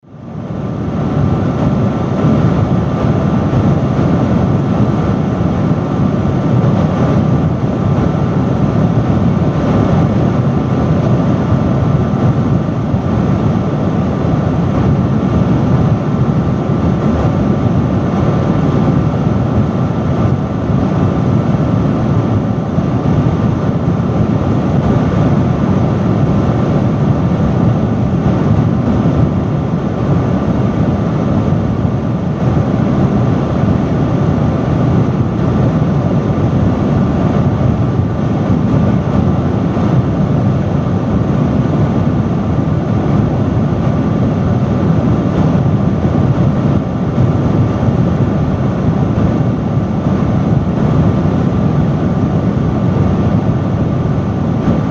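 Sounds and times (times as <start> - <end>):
fan whine: 0.0 - 54.9
industrial fan rushing air: 0.0 - 54.9.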